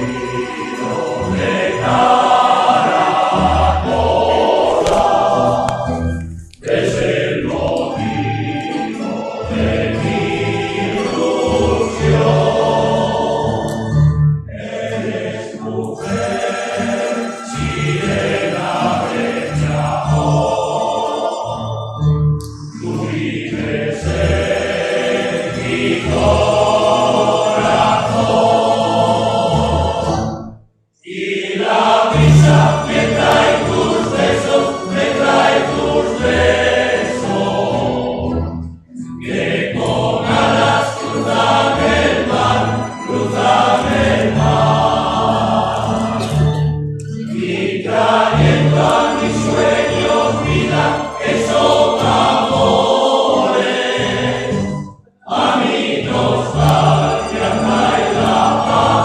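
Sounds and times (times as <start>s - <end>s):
group singing with accompaniment: 0.0s - 59.0s.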